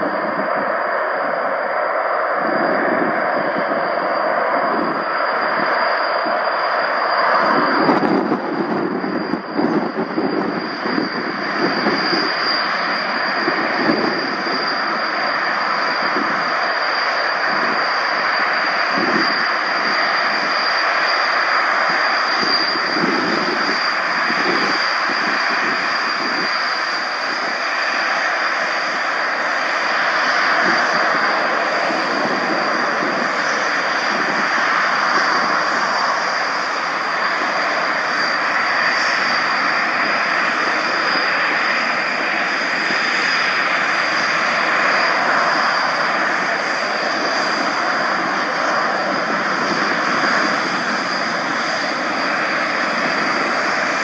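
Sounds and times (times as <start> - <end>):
aircraft engine rushing: 0.0 - 54.0
high engine whine: 0.0 - 54.0.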